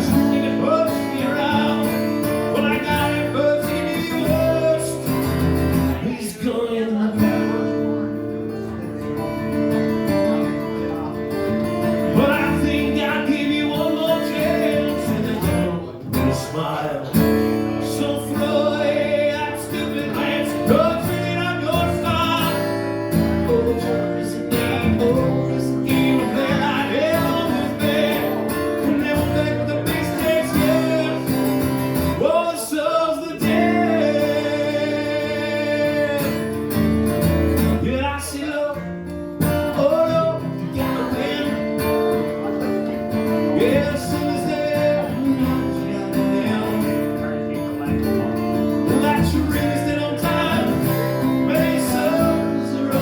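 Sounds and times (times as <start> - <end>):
man singing: 0.0 - 8.2, 10.2 - 53.0
strummed acoustic guitar: 0.0 - 53.0.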